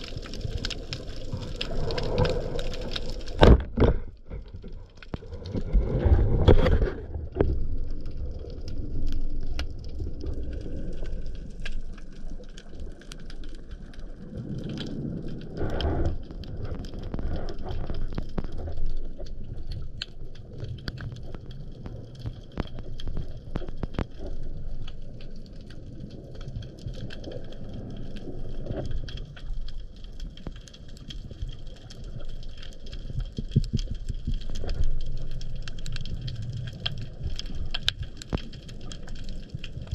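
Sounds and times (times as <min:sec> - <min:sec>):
underwater crackling clicks: 0:00.0 - 0:39.9
underwater rush of water: 0:00.0 - 0:39.9.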